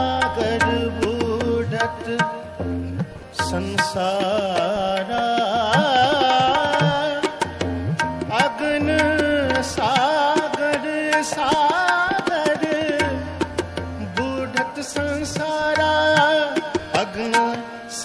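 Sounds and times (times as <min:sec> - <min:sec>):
tabla strokes: 0:00.0 - 0:18.0.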